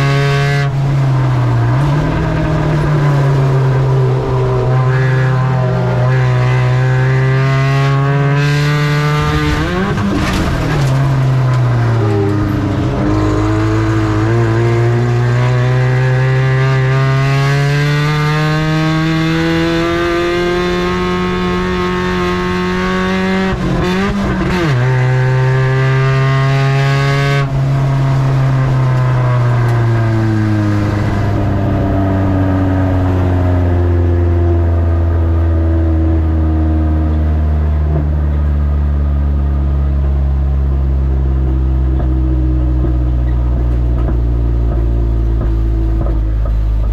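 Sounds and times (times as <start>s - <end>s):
race truck engine accelerating: 0.0s - 46.9s.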